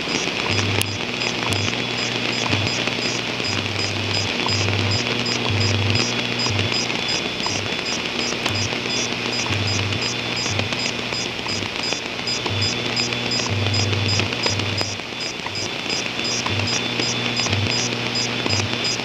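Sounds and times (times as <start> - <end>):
fast high-pitched ticking: 0.0 - 19.0
radio static hiss: 0.0 - 19.0
low-pitched beeping signal: 0.5 - 19.0.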